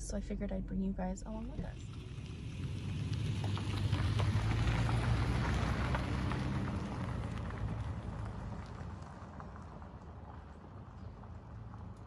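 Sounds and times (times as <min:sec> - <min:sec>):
low engine hum: 0:00.0 - 0:12.0
tyres crunching on gravel: 0:02.0 - 0:12.0.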